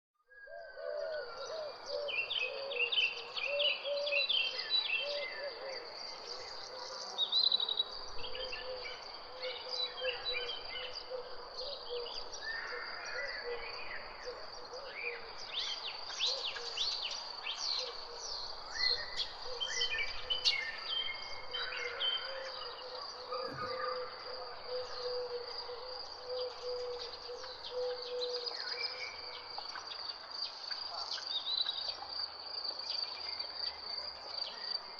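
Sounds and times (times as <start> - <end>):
birds chirping and singing: 0.3 - 32.0.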